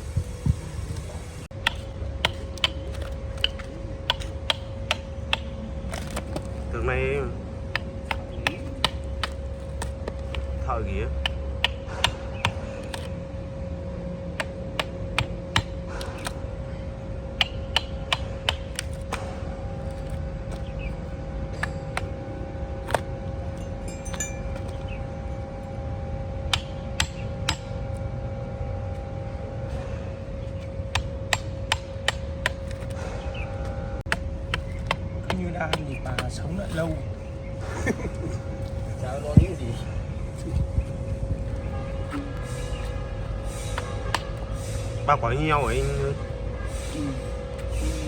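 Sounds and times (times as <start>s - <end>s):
steady machine hum: 0.0s - 48.0s.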